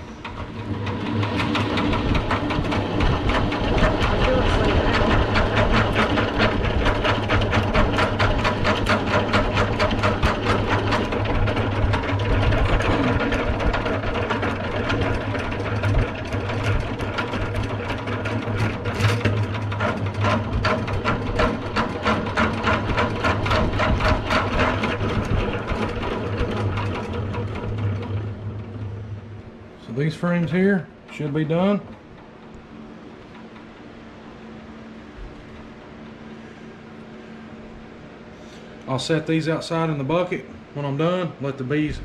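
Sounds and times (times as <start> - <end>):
honey extractor whirring and clattering: 0.0 - 42.0.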